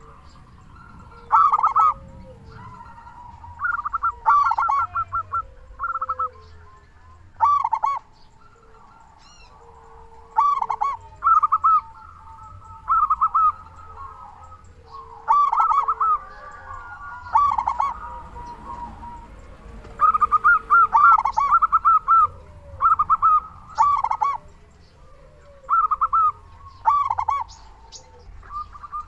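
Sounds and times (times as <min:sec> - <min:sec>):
doves cooing: 0:00.0 - 0:29.0
soft low dove coo: 0:00.0 - 0:29.0.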